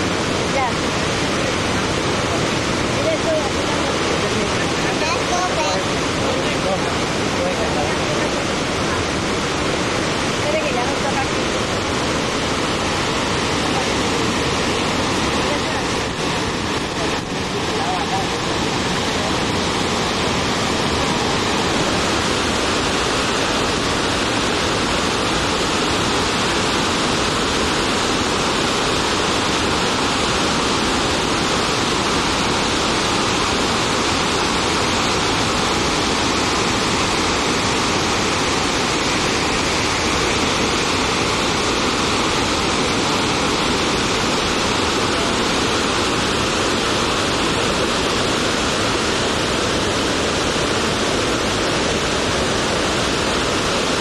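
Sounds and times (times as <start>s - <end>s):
roar of waterfall: 0.0s - 54.0s.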